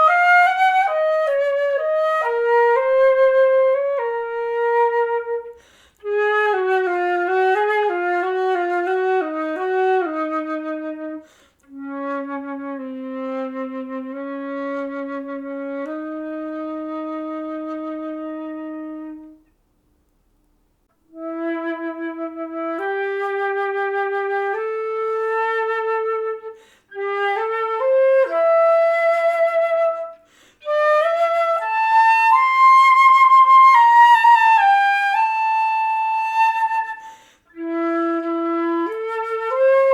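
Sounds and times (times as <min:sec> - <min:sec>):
solo flute: 0:00.0 - 0:19.6, 0:21.0 - 0:39.9.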